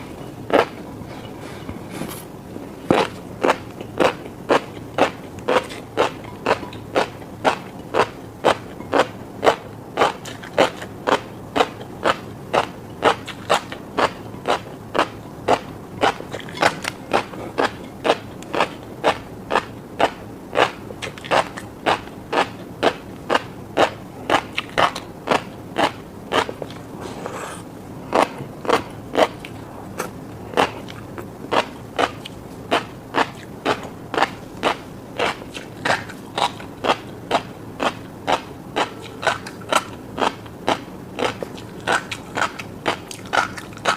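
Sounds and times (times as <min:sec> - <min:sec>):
chewing fish roe popping: 0:02.9 - 0:26.9, 0:28.1 - 0:43.9.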